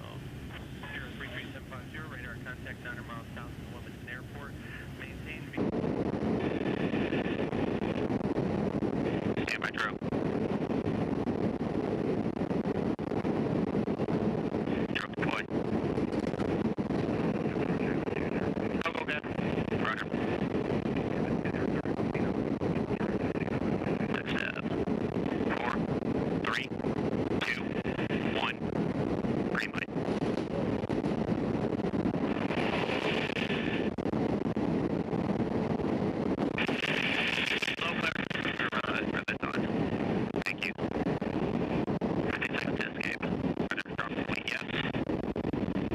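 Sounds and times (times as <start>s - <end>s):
aircraft engine noise: 0.0s - 45.9s
wind rushing in aircraft hold: 0.0s - 45.9s.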